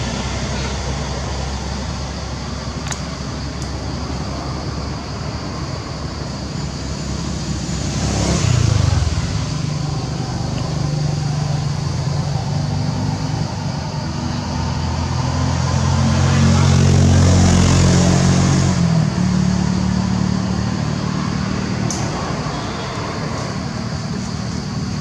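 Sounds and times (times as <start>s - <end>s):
vehicle engine hum: 0.0s - 25.0s.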